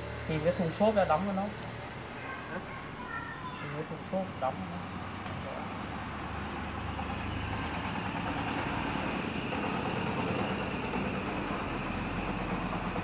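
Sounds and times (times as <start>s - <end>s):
machine running with low hum: 0.0s - 13.0s.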